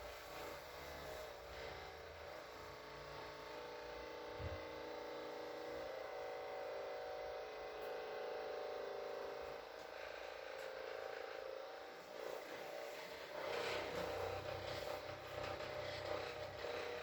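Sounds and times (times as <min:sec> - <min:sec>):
pulsing electric hum: 0:00.0 - 0:17.0.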